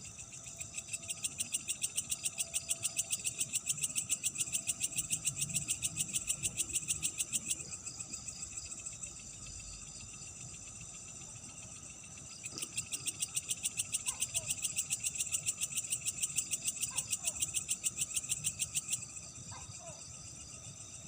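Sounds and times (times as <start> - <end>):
high-pitched insect trill: 0.0 - 21.0
pulsing insect chirp: 0.0 - 21.0.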